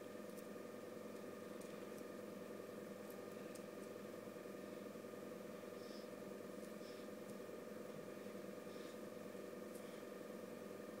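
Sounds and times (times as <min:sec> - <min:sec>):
faint machine hum: 0:00.0 - 0:11.0.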